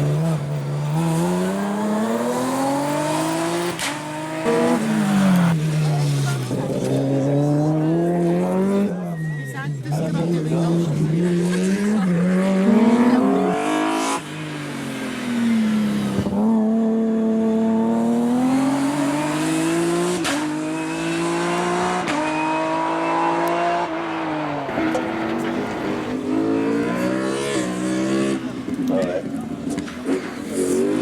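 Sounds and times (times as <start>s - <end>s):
race car engine revving: 0.0s - 9.0s, 9.9s - 31.0s.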